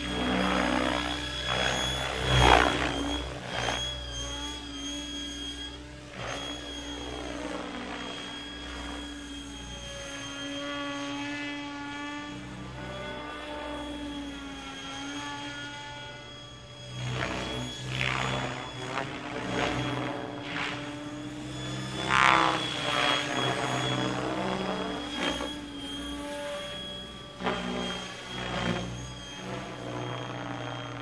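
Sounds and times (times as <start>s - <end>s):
electric motor whine: 0.0s - 31.0s
rotor blades whooshing: 0.0s - 31.0s.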